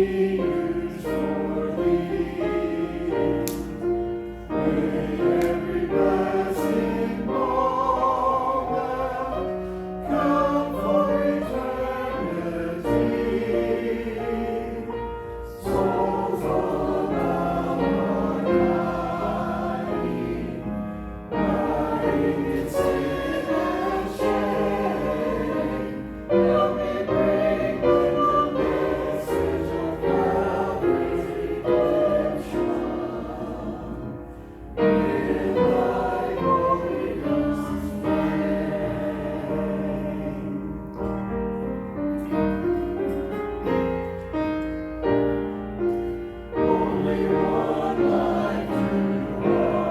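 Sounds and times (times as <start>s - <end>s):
church choir singing: 0.0s - 49.9s.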